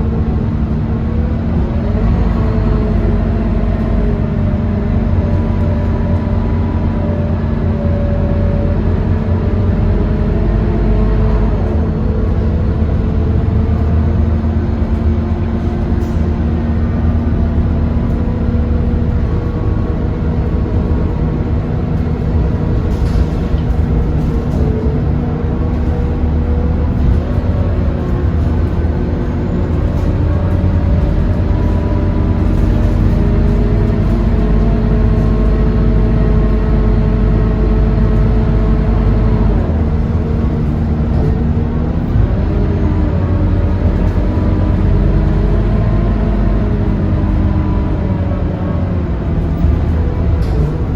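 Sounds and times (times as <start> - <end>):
bus diesel engine rumbling: 0.0 - 50.9.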